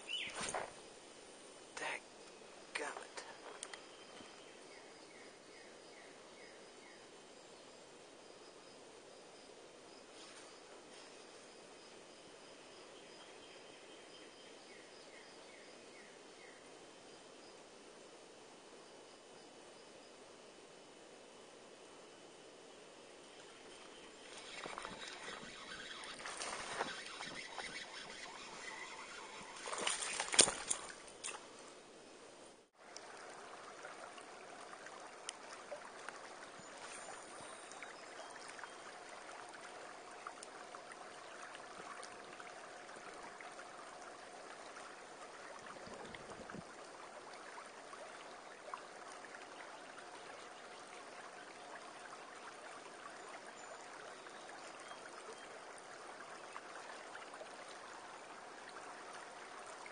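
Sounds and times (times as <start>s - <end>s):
creek water trickling: 0.0s - 20.2s, 21.2s - 59.9s.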